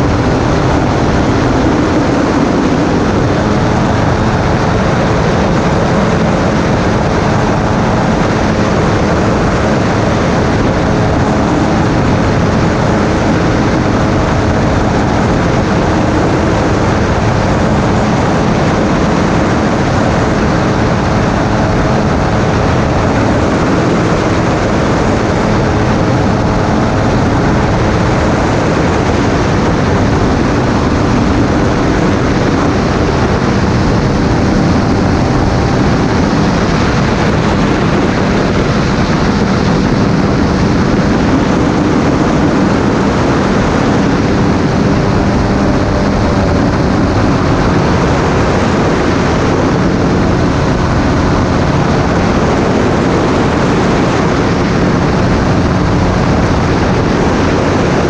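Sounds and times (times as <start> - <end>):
microlight engine and propeller: 0.0 - 58.0
rushing wind noise: 0.0 - 58.0.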